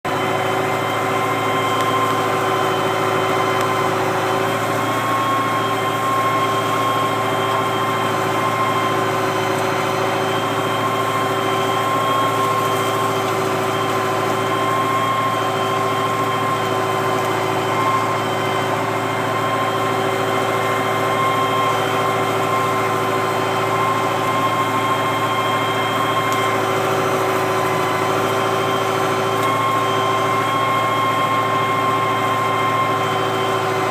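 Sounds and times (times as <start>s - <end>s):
tractor engine droning: 0.0s - 33.9s.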